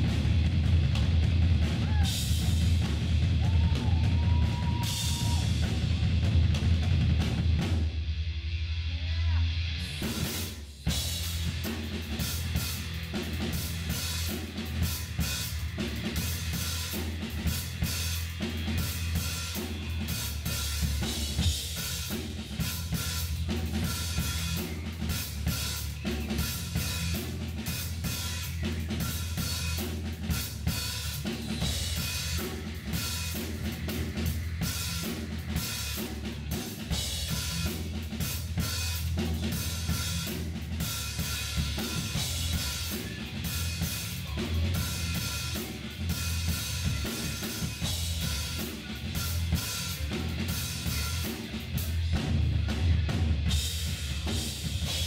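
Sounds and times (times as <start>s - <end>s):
drum kit playing: 0.0s - 55.0s
rock backing music: 0.0s - 55.0s.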